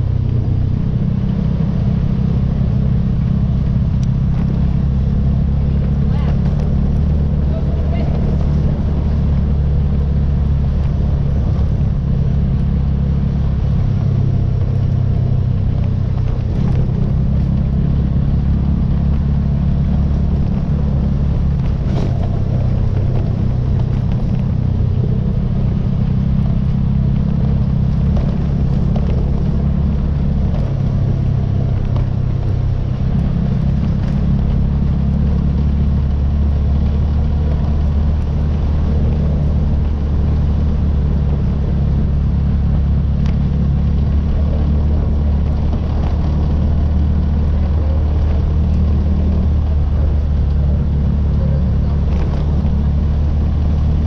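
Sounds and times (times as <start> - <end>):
atv engine running: 0.0 - 54.0
tires on gravel road: 0.0 - 54.0.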